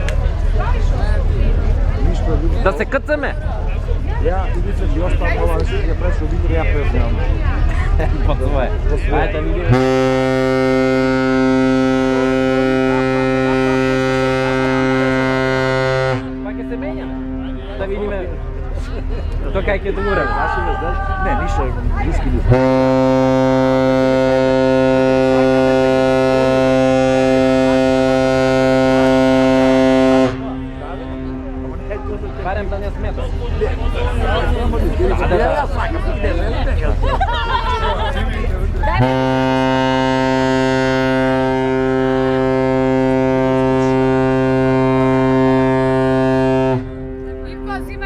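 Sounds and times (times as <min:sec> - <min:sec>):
ship horn long low blast: 0:00.0 - 0:48.0.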